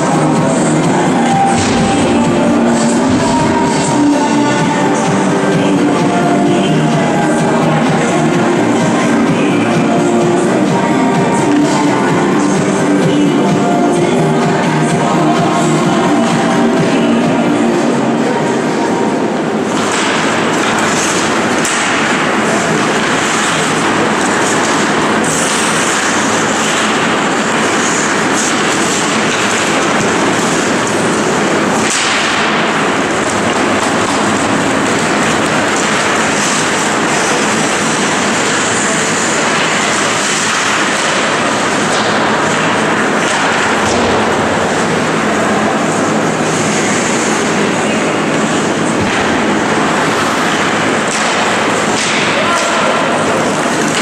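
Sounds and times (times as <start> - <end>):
background music: 0.0 - 53.0
ice hockey game din: 0.0 - 54.0.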